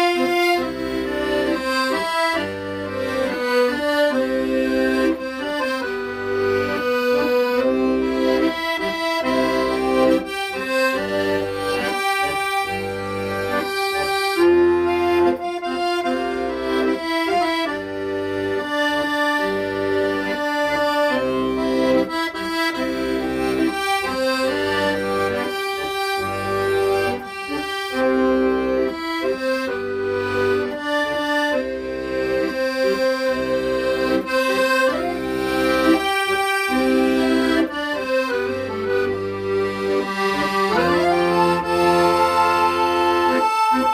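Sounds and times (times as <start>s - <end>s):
accordion melody: 0.0s - 43.9s.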